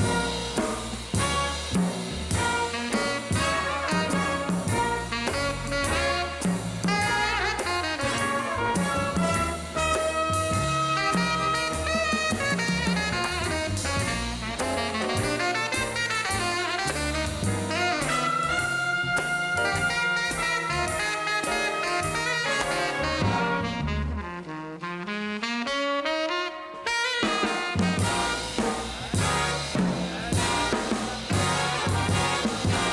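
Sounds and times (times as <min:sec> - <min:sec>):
jazz big band playing: 0:00.0 - 0:32.9.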